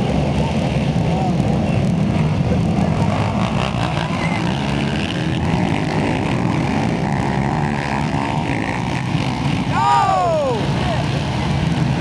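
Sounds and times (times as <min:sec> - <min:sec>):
racing quad engines roaring: 0:00.0 - 0:12.0.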